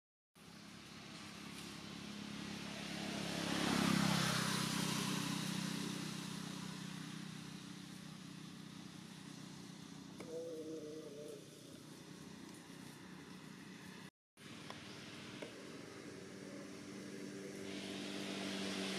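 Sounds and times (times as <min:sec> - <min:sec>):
vehicle engine hum passing by: 0:00.4 - 0:18.9.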